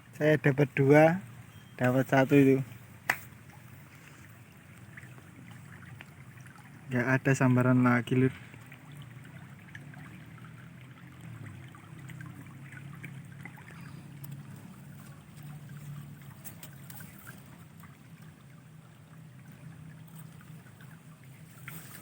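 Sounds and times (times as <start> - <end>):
stream water rushing: 0.0 - 22.0
water trickles and ticks: 0.0 - 22.0.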